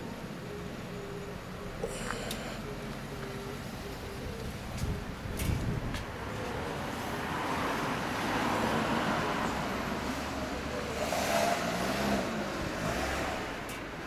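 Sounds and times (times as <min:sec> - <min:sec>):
passing vehicles: 0:00.0 - 0:14.0.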